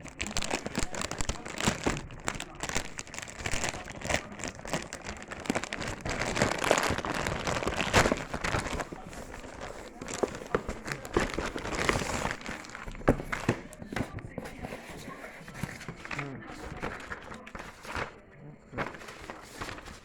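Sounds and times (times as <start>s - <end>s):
small crackles and clicks: 0.0s - 14.3s, 15.0s - 20.0s
plastic and cardboard crinkling: 0.0s - 20.0s.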